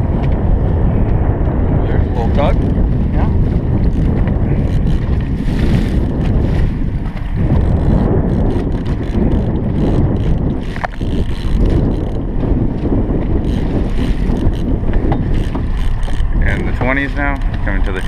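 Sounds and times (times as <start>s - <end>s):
outboard motor rumble: 0.0s - 18.0s
wind buffeting microphone: 0.0s - 18.0s.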